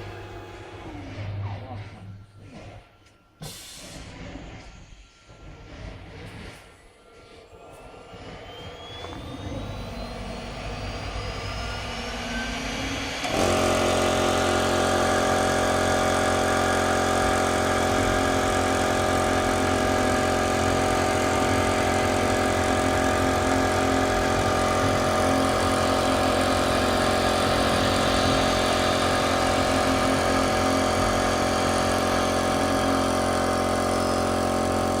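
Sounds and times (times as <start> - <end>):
cnc router whine rising: 0.0 - 35.0
loud steady machine noise: 0.0 - 35.0.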